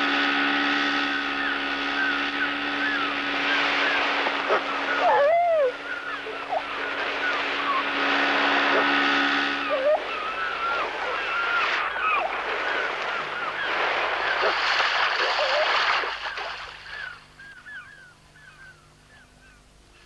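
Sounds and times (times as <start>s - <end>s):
rush of wind or water: 0.0s - 18.1s
birds calling in hooked cries: 0.3s - 20.0s.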